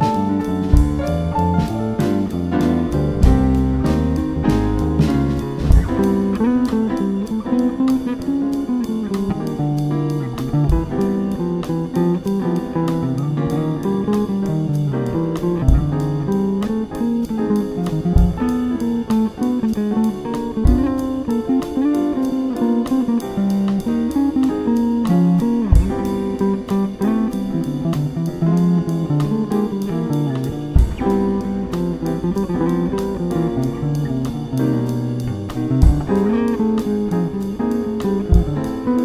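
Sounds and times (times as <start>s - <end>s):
electric bass walking jazz line: 0.0s - 39.0s
keyboard accompaniment: 0.0s - 39.0s.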